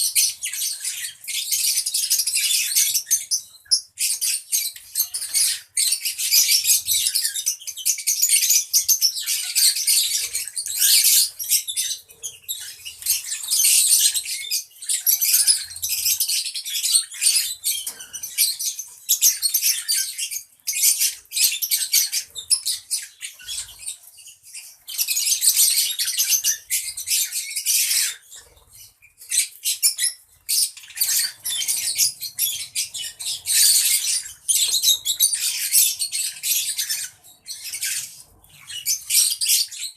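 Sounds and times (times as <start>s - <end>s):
lovebirds chirping and squeaking: 0.0s - 39.9s.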